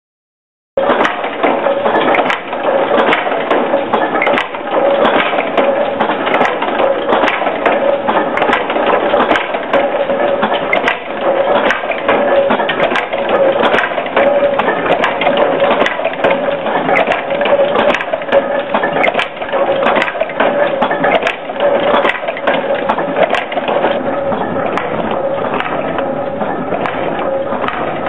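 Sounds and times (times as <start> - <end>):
nail-making machine clattering: 0.8 - 28.0.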